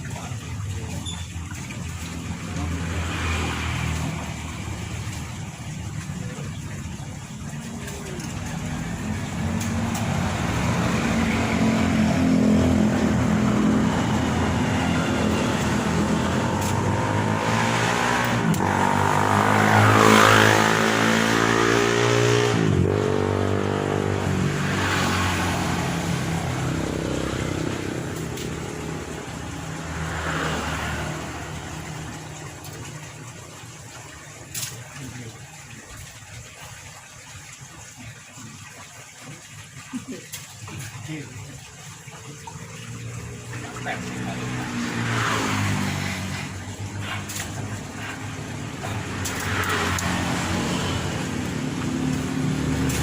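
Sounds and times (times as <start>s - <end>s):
vehicle engine passing by: 0.0s - 34.2s, 42.0s - 53.0s.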